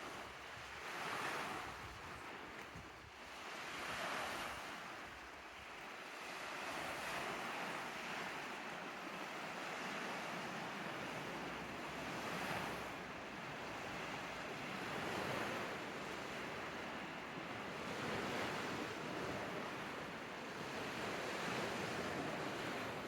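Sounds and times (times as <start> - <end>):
lake waves washing on beach: 0.0 - 23.0.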